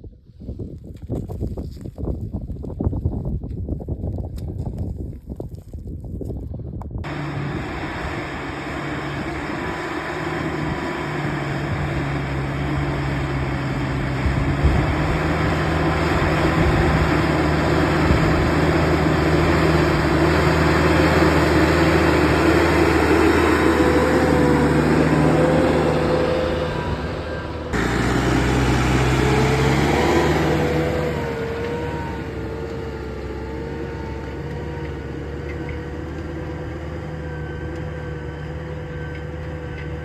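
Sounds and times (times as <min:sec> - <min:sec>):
tractor diesel engine running: 0:07.0 - 0:40.0.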